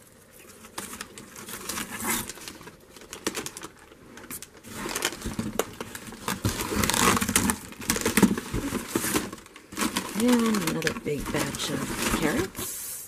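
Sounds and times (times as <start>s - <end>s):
cardboard and paper rustling: 0.0s - 13.0s.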